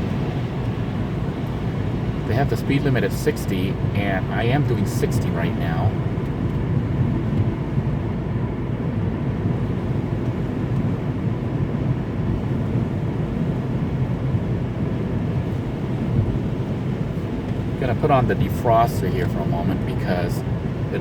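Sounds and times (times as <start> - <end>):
road and tyre noise in car cabin: 0.0 - 21.0.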